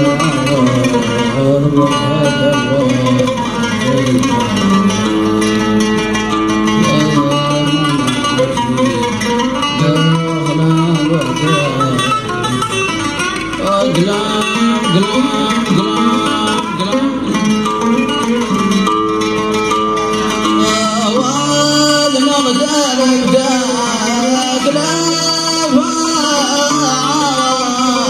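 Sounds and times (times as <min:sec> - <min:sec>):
oud melody: 0:00.0 - 0:28.0.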